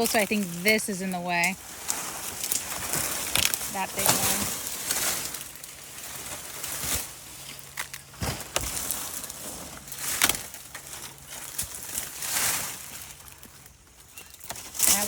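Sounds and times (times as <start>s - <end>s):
rustling brush: 0.0s - 13.6s
sharp cracks of branches: 0.0s - 15.0s.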